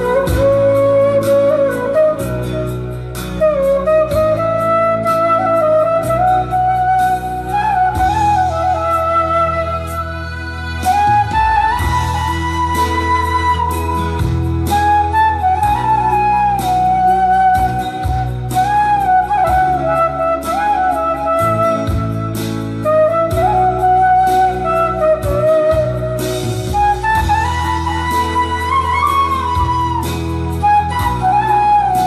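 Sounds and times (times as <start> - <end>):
flute-like melody: 0.0 - 32.0.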